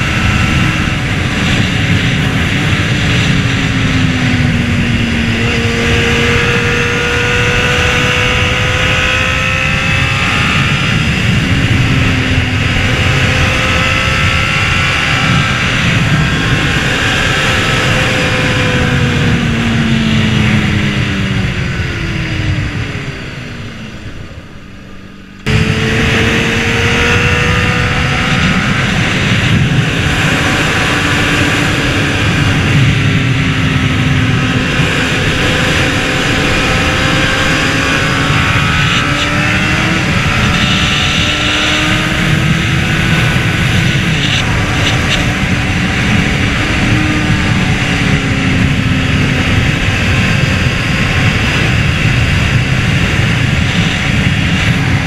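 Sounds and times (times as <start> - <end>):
heavy wind rush: 0.0 - 55.0
motorcycle engine at speed: 0.0 - 55.0.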